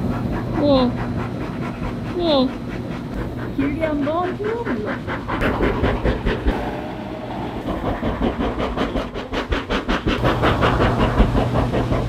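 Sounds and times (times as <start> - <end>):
low pump hum: 0.0 - 12.0
water jets pulsing rhythmically: 0.0 - 12.0.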